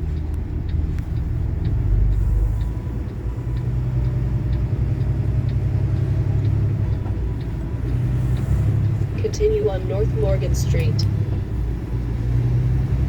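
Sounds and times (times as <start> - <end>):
faint regular ticking: 0.0 - 12.0
truck engine and road rumble: 0.0 - 13.0.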